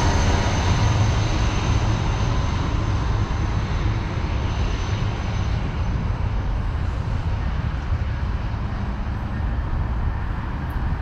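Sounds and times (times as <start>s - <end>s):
train rumbling down the track: 0.0s - 11.0s.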